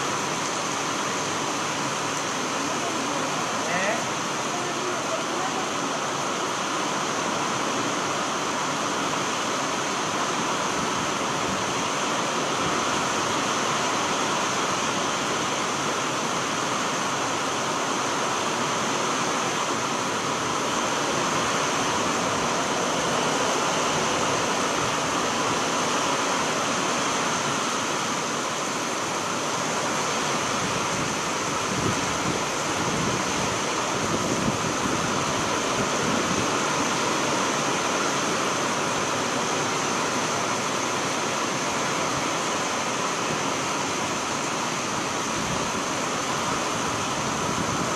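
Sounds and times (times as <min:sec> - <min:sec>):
heavy rain on pavement: 0:00.0 - 0:47.9.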